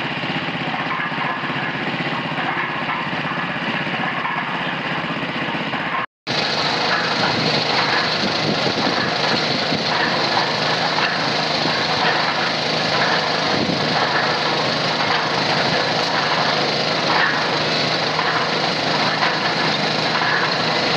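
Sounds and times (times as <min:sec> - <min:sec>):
small petrol engine running: 0:00.0 - 0:20.9.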